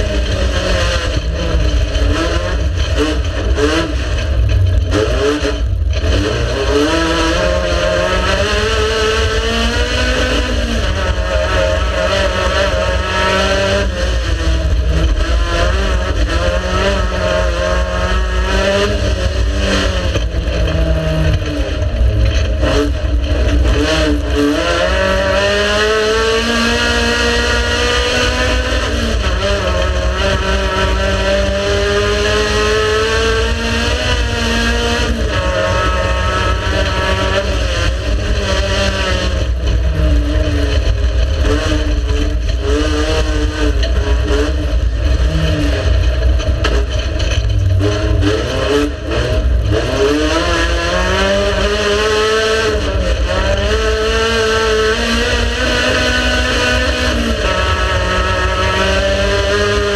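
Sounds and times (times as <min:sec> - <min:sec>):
heavy low rumble: 0:00.0 - 0:26.0, 0:27.7 - 0:51.6
race car engine revving: 0:00.0 - 0:59.9.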